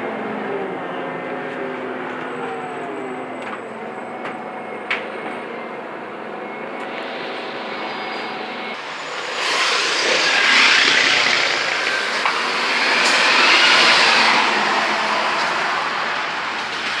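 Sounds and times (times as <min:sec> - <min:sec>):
bus engine under hard load: 0:00.0 - 0:17.0
turbocharger whine: 0:00.0 - 0:17.0.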